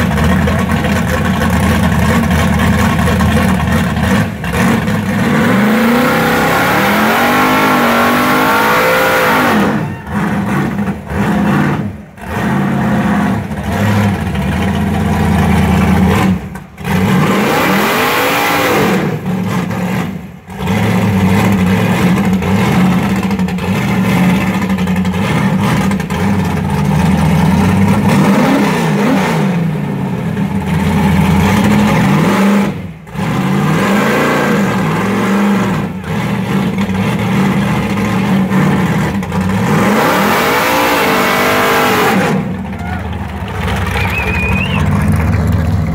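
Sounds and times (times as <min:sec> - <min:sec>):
car engine revving hard: 0:00.0 - 0:42.8.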